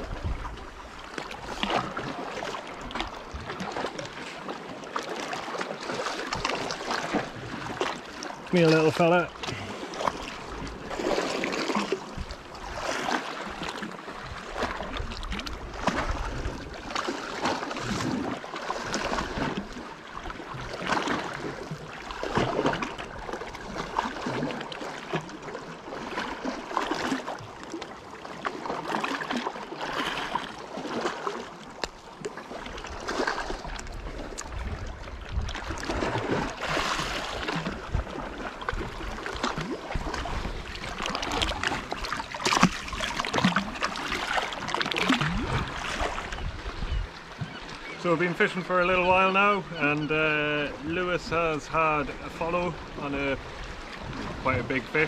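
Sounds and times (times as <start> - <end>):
sea water splashing on rocks: 0.0 - 46.4.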